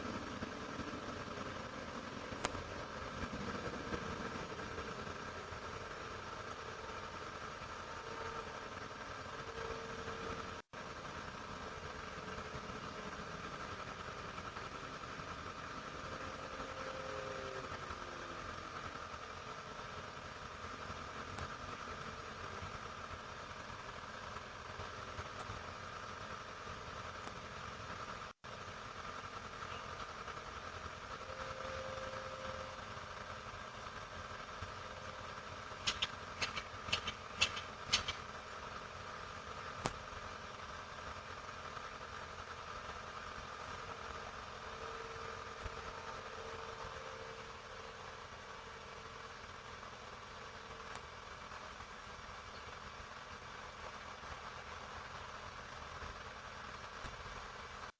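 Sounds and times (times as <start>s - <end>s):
faint hum: 0.0s - 57.9s.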